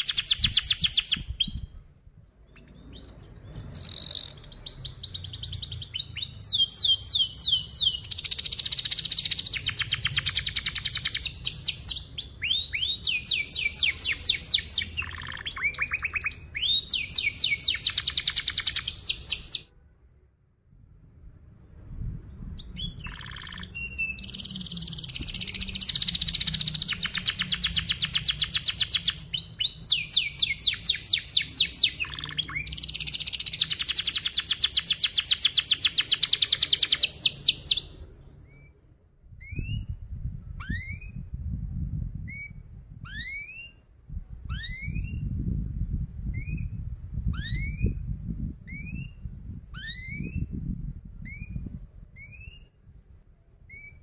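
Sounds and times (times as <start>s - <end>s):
canary singing fast trills: 0.0s - 19.7s, 22.5s - 38.8s, 40.6s - 41.4s, 42.2s - 43.8s, 44.5s - 45.4s, 46.2s - 50.6s.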